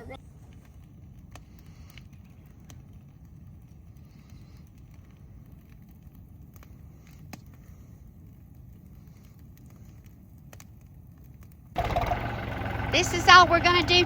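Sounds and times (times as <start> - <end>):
bonfire crackling and popping: 0.0 - 14.0
fire low rumble: 0.0 - 14.0.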